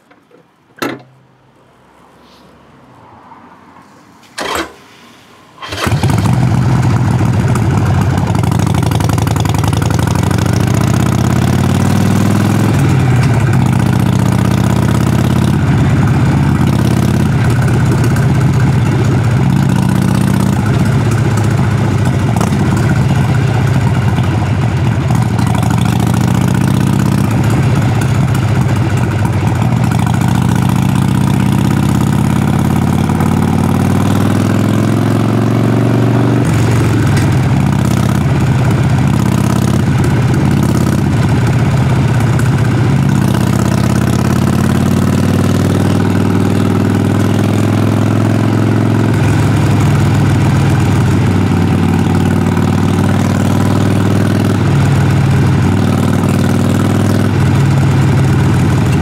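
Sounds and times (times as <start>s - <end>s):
motorcycle engine starting and idling: 4.2s - 59.0s.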